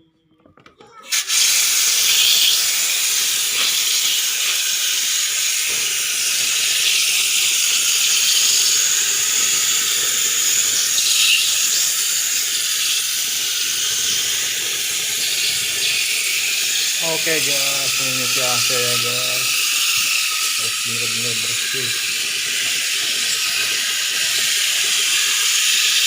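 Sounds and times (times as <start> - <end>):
water jet spraying: 1.1 - 26.0.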